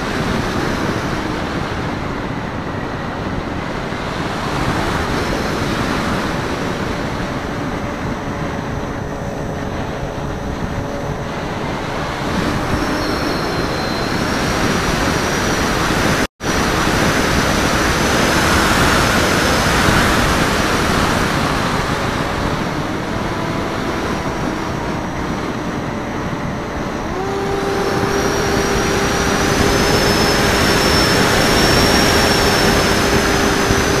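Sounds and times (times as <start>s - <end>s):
electric motor and propeller drone: 0.0s - 34.0s
wind rushing over microphone: 0.0s - 34.0s.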